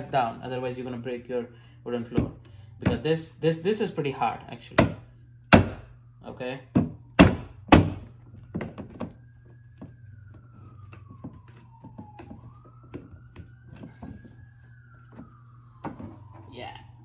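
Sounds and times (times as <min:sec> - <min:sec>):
faint siren wailing: 0:00.0 - 0:17.0.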